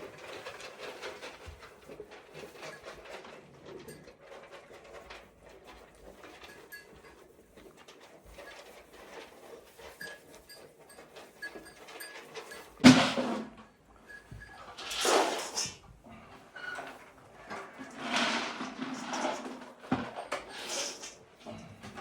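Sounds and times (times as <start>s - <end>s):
sheep shuffling and rustling: 0.0s - 22.0s.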